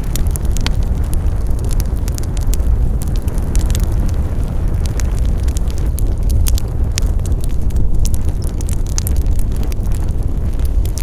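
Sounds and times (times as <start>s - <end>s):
low rumble of flames: 0.0s - 11.0s
wood fire crackling: 0.0s - 11.0s.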